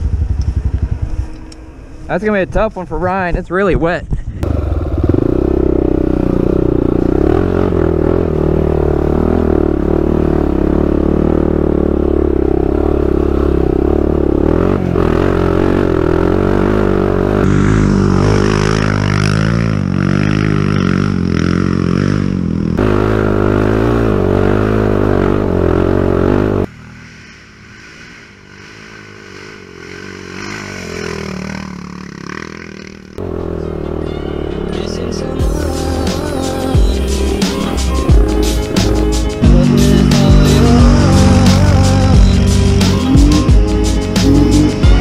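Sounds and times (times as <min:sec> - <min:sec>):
atv engine under throttle: 0:00.0 - 0:01.9, 0:04.2 - 0:45.0.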